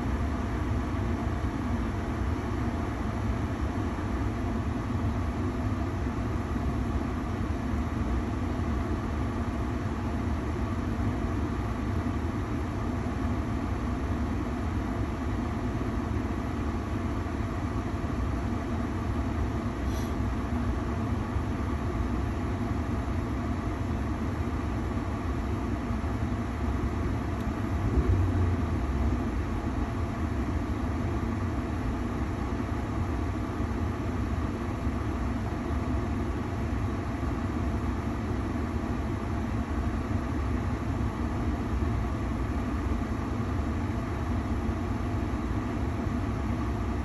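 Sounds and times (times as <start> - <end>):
car heater blower running: 0.0 - 47.0.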